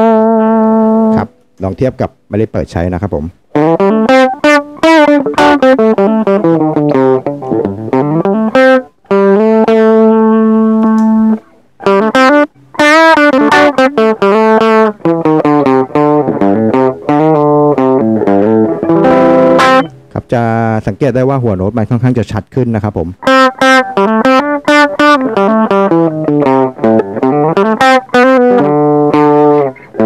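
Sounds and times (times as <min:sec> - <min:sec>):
electric guitar playing: 0:00.0 - 0:01.6, 0:03.4 - 0:20.7, 0:23.2 - 0:30.0.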